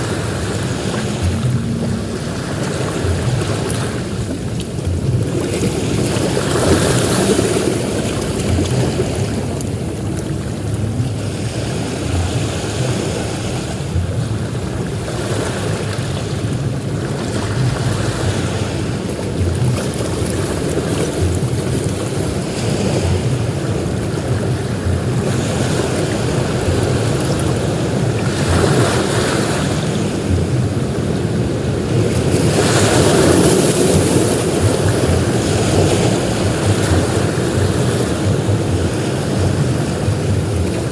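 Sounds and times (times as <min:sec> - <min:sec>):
ocean surf breaking on a beach: 0:00.0 - 0:40.9
wind buffeting the microphone: 0:00.0 - 0:40.9.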